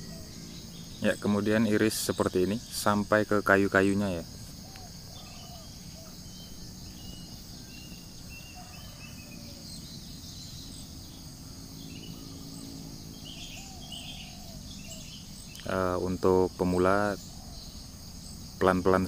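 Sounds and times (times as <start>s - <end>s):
bird chirps: 0.0s - 19.0s
crickets droning: 0.0s - 19.0s.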